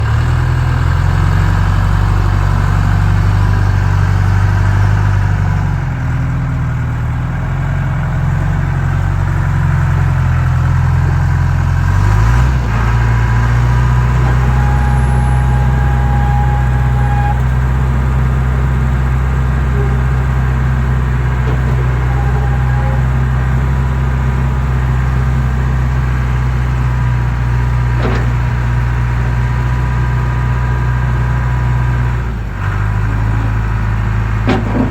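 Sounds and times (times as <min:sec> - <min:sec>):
backhoe diesel engine running: 0:00.0 - 0:34.9.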